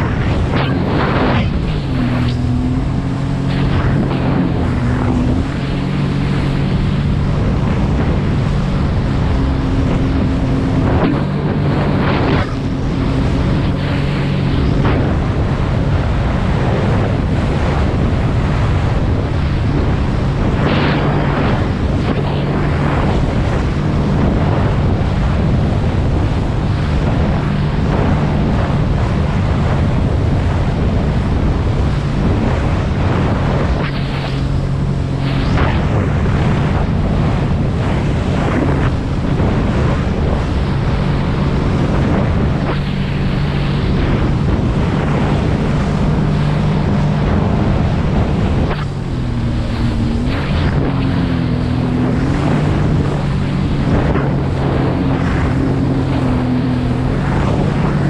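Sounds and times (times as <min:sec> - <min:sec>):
hull slapping through waves: 0:00.0 - 0:58.0
jet ski engine drone: 0:00.0 - 0:58.0
water rushing and spraying: 0:00.0 - 0:58.0
wind buffeting microphone: 0:00.0 - 0:58.0.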